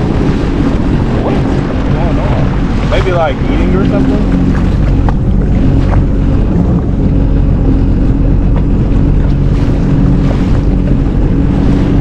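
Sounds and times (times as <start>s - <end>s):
jet ski engine running: 0.0s - 12.0s
wind noise on microphone: 0.0s - 12.0s.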